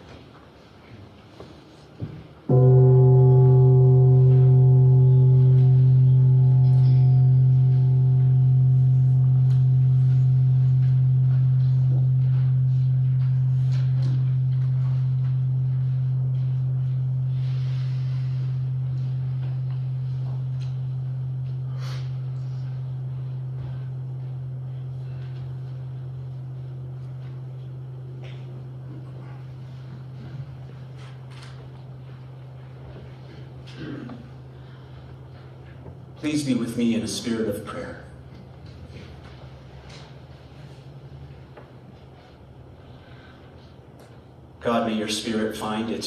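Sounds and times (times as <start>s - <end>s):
deep gong ringing: 2.5s - 43.7s.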